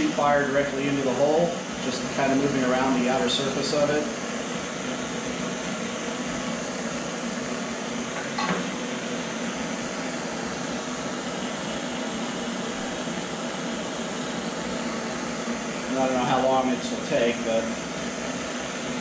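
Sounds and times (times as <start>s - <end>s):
propane torch hissing: 0.0s - 19.0s.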